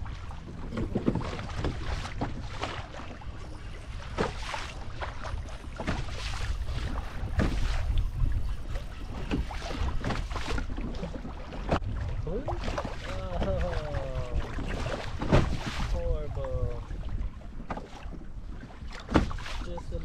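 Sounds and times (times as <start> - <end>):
waves slapping kayak hull: 0.0 - 20.0
wind buffeting microphone: 0.0 - 20.0.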